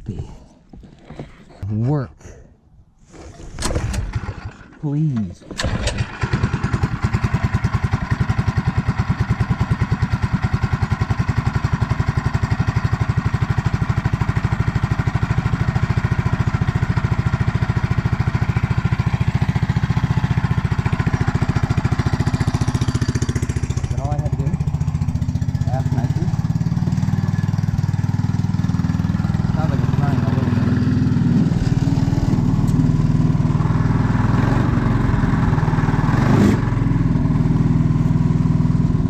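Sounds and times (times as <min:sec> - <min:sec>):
small engine running steadily: 0:05.6 - 0:39.0.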